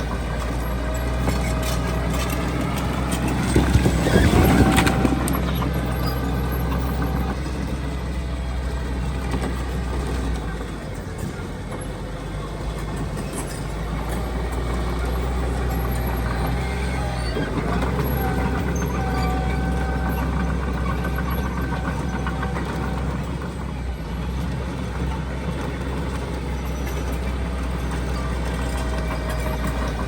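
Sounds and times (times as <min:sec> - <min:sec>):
heavy diesel machinery under load: 0:00.0 - 0:30.0.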